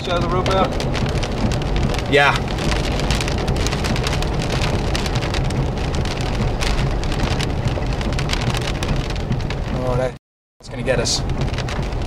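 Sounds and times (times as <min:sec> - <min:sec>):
heavy rain on vehicle: 0:00.0 - 0:12.0
steady low rumble: 0:00.0 - 0:12.0.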